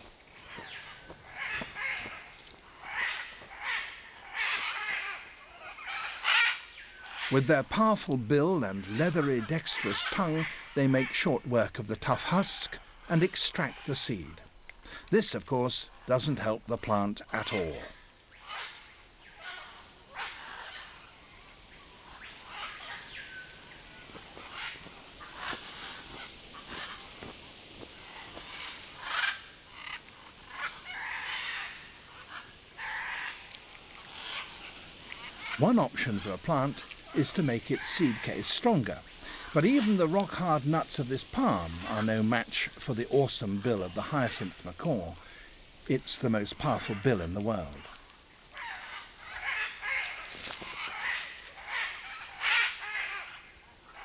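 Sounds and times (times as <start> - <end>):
macaws squawking: 0.0 - 18.8, 22.0 - 48.0, 48.6 - 53.4.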